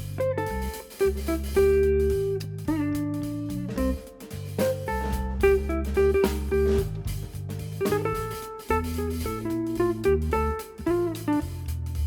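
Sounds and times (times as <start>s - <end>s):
plucked guitar notes: 0.0s - 7.2s, 7.8s - 11.7s
bass line: 0.0s - 12.0s.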